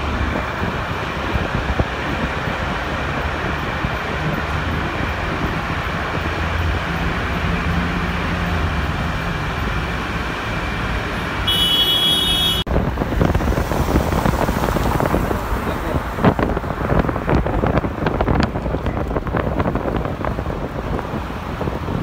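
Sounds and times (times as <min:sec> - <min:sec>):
car road and engine rumble: 0:00.0 - 0:22.0
wind-buffeted traffic noise: 0:00.0 - 0:22.0.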